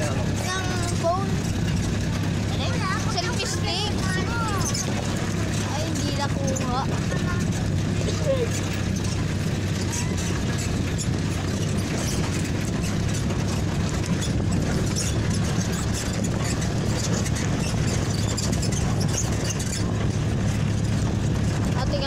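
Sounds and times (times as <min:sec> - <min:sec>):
tires on gravel road: 0:00.0 - 0:22.0
vehicle engine running: 0:00.0 - 0:22.0
wind noise: 0:00.0 - 0:22.0.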